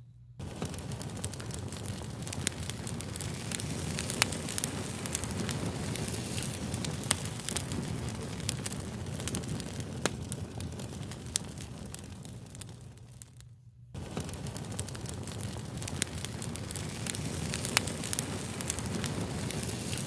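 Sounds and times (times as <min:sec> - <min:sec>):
fire crackling with sharp pops: 0:00.4 - 0:20.0.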